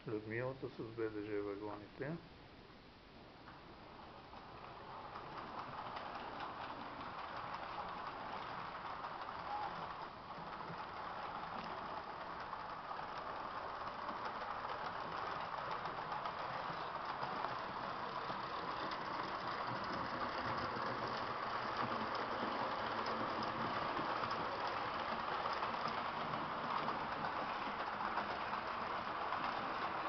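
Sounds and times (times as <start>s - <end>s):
wheels rattling over rails: 3.4s - 30.0s
model train motor whirring: 3.5s - 30.0s.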